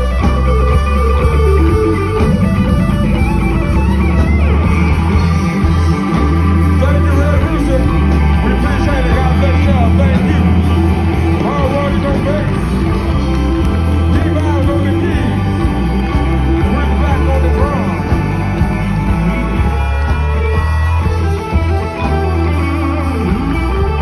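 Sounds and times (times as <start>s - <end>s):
blues band playing: 0.0s - 24.0s
electric guitar bending notes: 0.0s - 24.0s.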